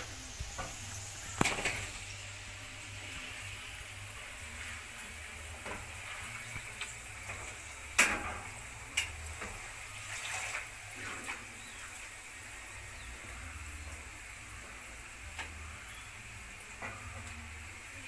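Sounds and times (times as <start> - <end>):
hot oil sizzling in a pan: 0.0 - 18.0.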